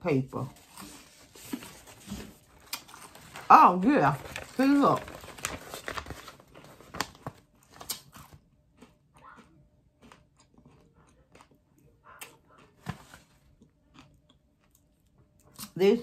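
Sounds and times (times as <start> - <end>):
person chewing popcorn: 0.6 - 3.5, 4.1 - 15.8.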